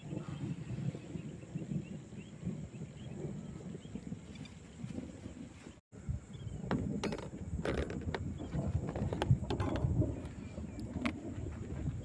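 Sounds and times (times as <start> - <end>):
thunder crackles: 0.0 - 12.0
thunder rumbling: 0.0 - 12.0.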